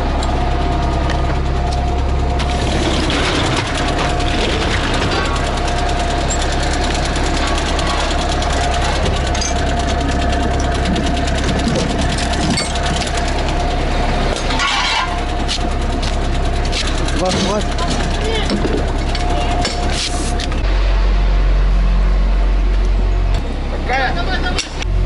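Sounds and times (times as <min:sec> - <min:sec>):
fire engine running: 0:00.0 - 0:25.0
steady whine: 0:00.0 - 0:25.0.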